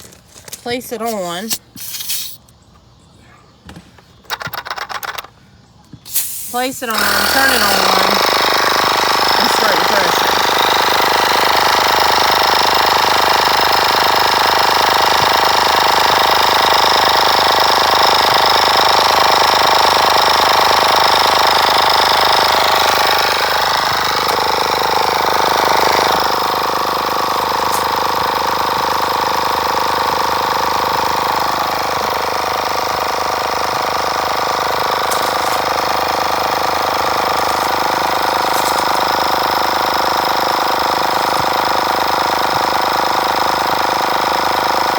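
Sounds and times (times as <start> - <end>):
air compressor pump chattering: 1.0 - 2.6, 4.2 - 5.4, 6.1 - 44.9.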